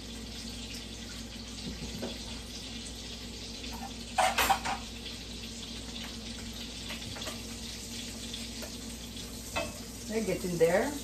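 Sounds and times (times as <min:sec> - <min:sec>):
sausages sizzling in a skillet: 0:00.0 - 0:11.0.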